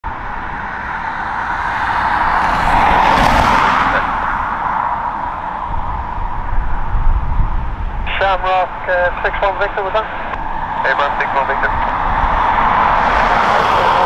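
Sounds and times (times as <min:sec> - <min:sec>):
jet engines at takeoff power: 0:00.1 - 0:14.0.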